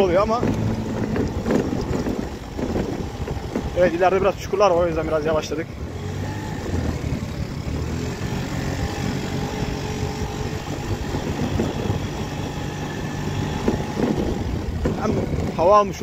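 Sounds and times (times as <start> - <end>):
road noise: 0.0 - 16.0
scooter engine running: 0.0 - 16.0
wind: 0.0 - 16.0.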